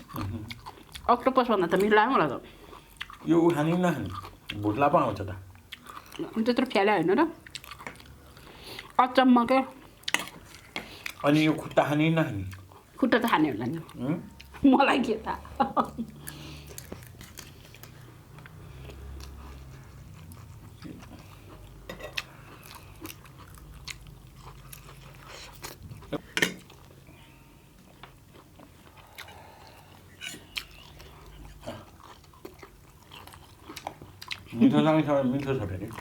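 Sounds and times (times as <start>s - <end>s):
chewing: 0.0s - 4.8s, 5.6s - 6.8s, 7.4s - 9.0s, 9.7s - 11.7s, 12.5s - 14.6s, 15.5s - 27.0s, 27.8s - 36.0s.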